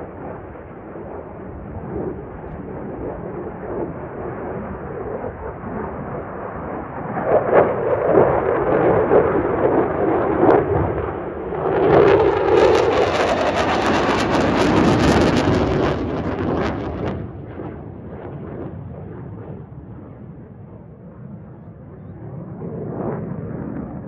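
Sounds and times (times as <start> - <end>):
fighter jet roar: 0.0 - 19.9.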